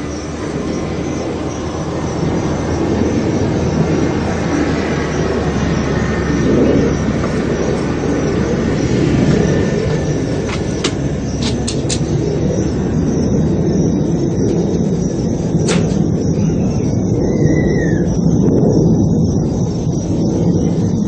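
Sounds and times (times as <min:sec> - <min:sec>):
jet aircraft flying over: 0:00.0 - 0:21.0.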